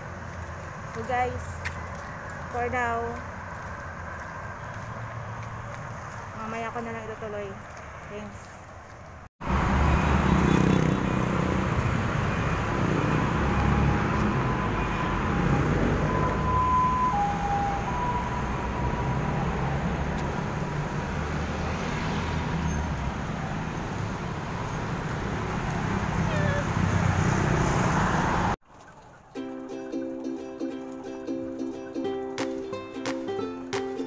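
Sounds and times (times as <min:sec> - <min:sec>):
highway traffic rumble: 0:00.0 - 0:34.0.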